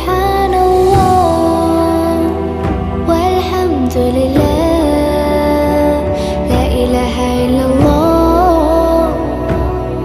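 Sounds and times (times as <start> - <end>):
steady low backing: 0.0 - 10.0.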